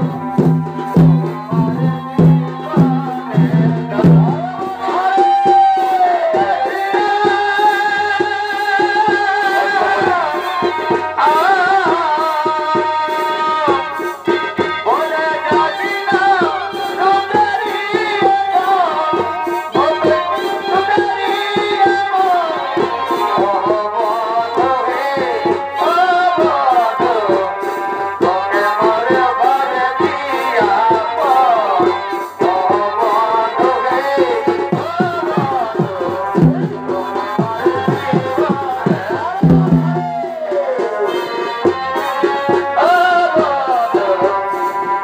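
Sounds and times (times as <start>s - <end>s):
rapid folk drumming: 0.0s - 45.0s
sustained melody over loudspeakers: 0.0s - 45.0s.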